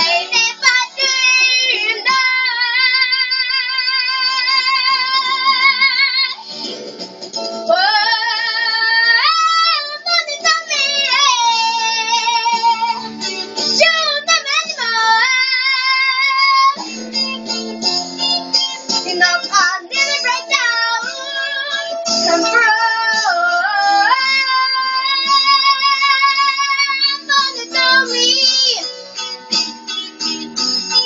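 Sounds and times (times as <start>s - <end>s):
girl singing into microphone: 0.0s - 6.5s, 7.6s - 17.4s, 18.5s - 29.0s.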